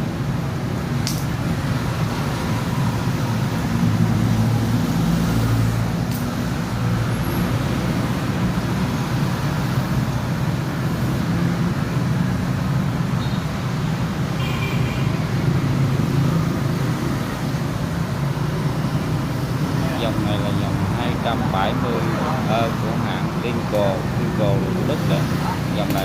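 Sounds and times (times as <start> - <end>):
low rumble of vehicle engines: 0.0 - 26.0.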